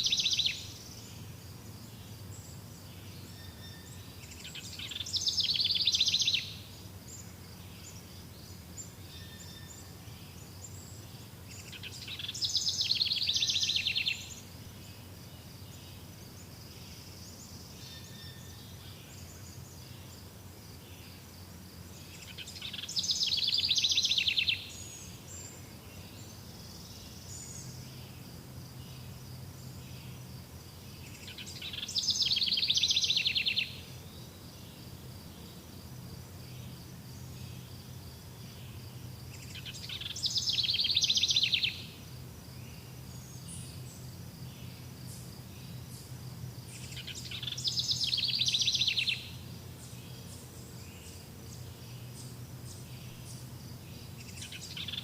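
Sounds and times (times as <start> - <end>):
faint insect chirping: 0.0 - 55.0.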